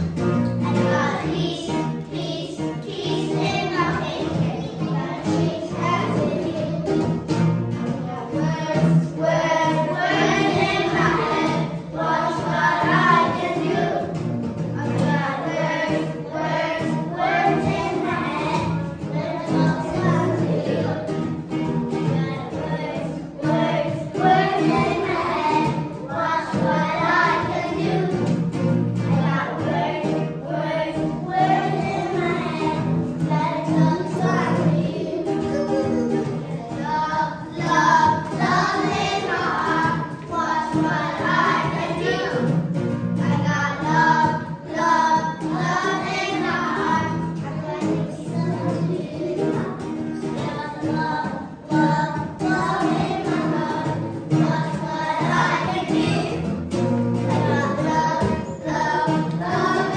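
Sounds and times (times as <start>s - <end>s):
children singing: 0.0s - 59.9s
recorded musical accompaniment: 0.0s - 59.9s.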